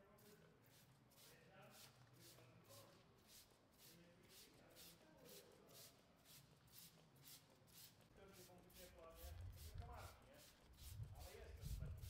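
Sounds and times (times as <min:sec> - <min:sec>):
spray bottle squirts: 0:00.7 - 0:12.0.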